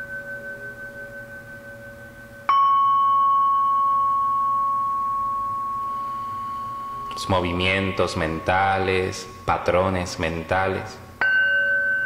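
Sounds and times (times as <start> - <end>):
singing bowl ringing: 0.0 - 9.4, 11.1 - 12.0.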